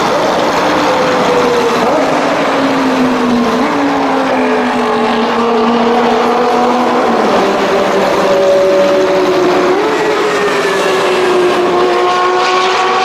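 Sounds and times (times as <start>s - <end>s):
supercar engines revving past: 0.0s - 13.0s.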